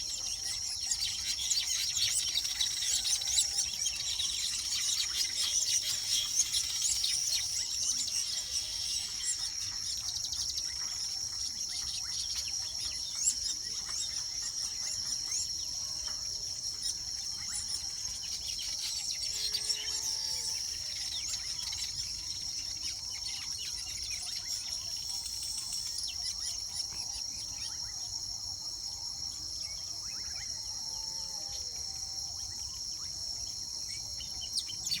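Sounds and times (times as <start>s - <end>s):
birds chattering and chirping: 0.0s - 30.8s, 32.4s - 35.0s
high-pitched insect trill: 0.0s - 35.0s.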